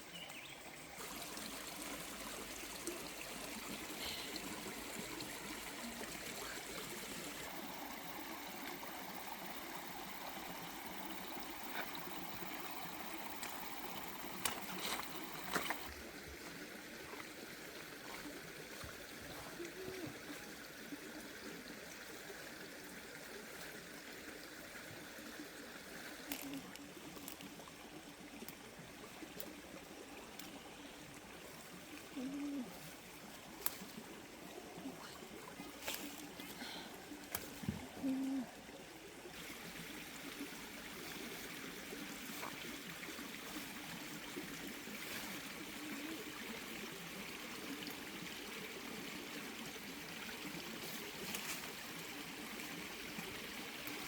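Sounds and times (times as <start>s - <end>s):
water trickling: 0.0s - 54.0s.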